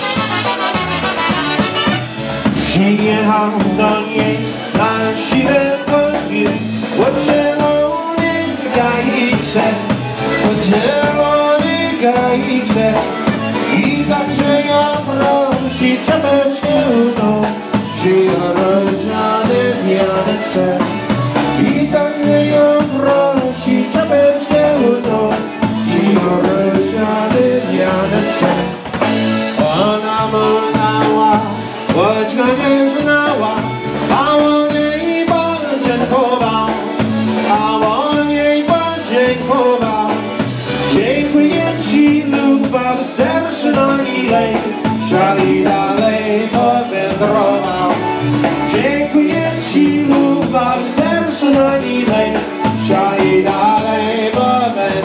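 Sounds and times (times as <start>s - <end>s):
accordions and trumpets: 0.0s - 55.0s
bass and drums beat: 0.0s - 55.0s
polka band playing: 0.0s - 55.0s.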